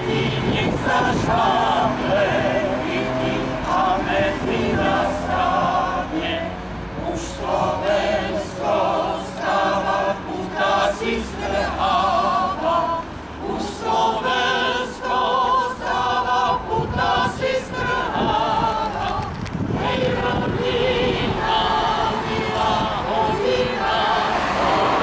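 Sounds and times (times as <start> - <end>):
mixed choir singing unaccompanied: 0.0 - 25.0.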